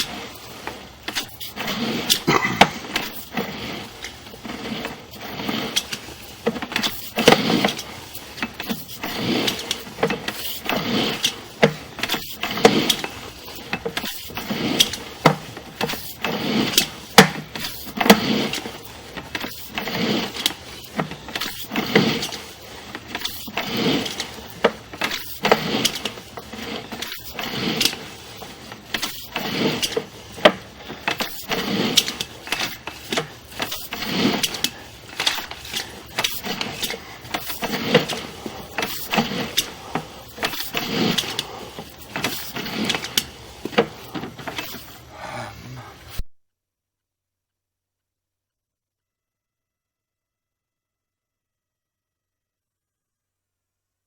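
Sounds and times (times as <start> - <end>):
cable scraping and rattling in drain: 0.0 - 45.2.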